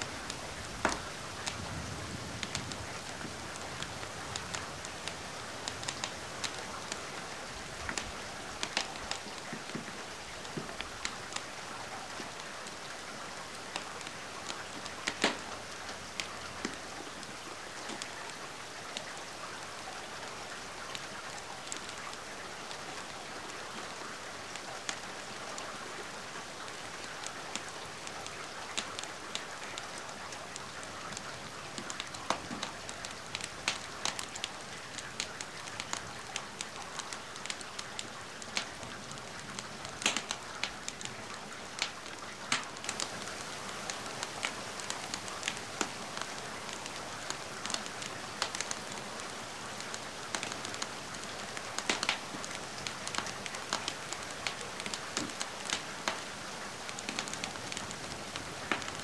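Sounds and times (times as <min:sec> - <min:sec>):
steady rain hiss: 0:00.0 - 0:59.0
wood fire crackling: 0:00.0 - 0:59.0.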